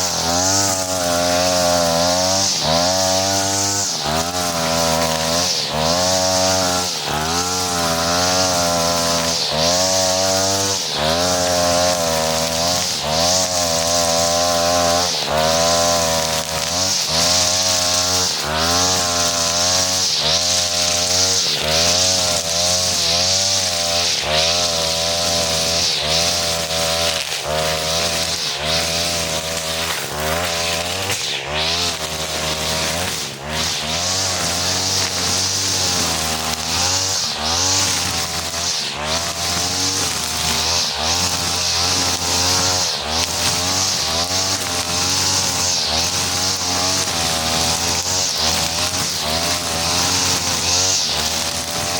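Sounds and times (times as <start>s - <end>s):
brush cutter running at high revs: 0.0s - 51.9s.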